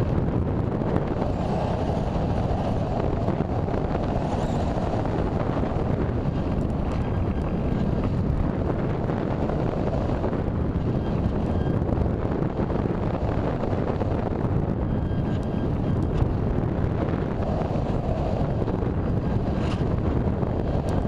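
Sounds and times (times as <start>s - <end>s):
deep wind noise: 0.0s - 21.0s.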